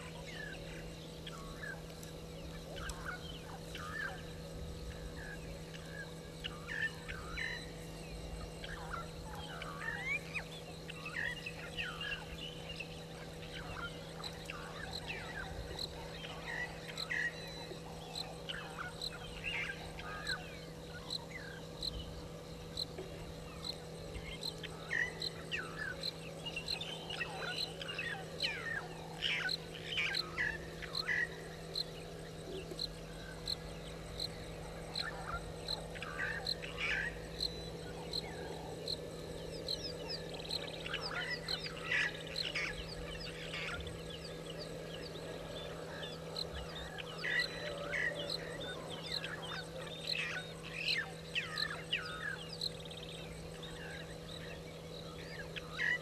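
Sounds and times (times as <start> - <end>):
frogs and birds chirping: 0.0 - 56.0
steady low hum: 0.0 - 56.0.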